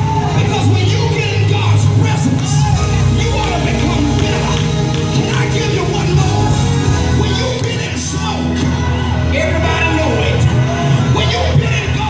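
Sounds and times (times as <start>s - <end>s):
heavy bass line: 0.0s - 12.0s
loud music over sound system: 0.0s - 12.0s.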